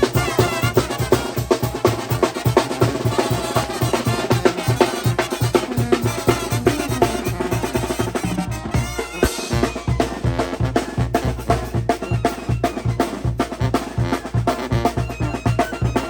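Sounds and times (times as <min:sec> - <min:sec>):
drums fast beat: 0:00.0 - 0:16.0
wind band playing: 0:00.0 - 0:16.0.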